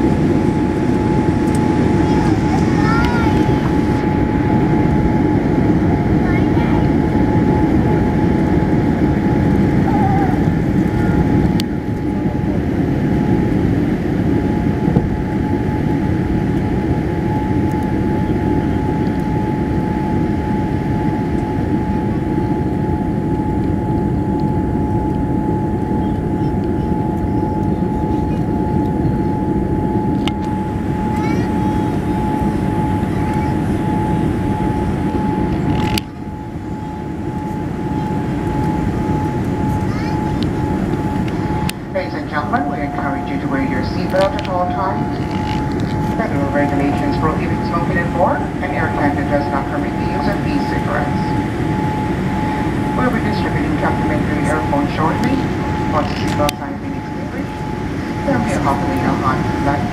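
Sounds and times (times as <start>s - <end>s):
airplane cabin engine rumble: 0.0s - 59.9s
steady whine: 0.0s - 59.9s.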